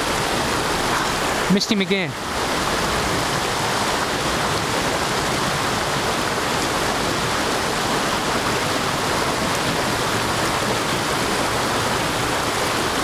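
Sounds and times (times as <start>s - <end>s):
creek rushing over boulders: 0.0s - 13.0s.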